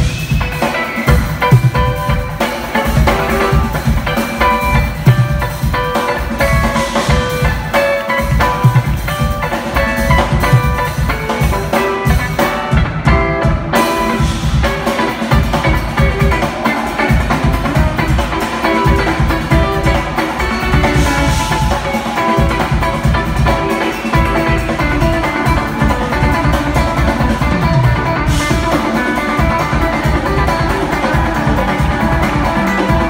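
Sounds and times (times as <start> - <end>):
busy drum kit: 0.0 - 33.0
electric guitar lines: 0.0 - 33.0.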